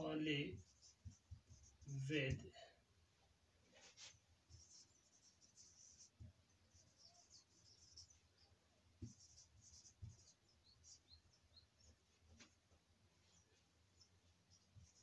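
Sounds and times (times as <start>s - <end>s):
marker squeaking on whiteboard: 0.4s - 2.4s, 3.7s - 15.0s.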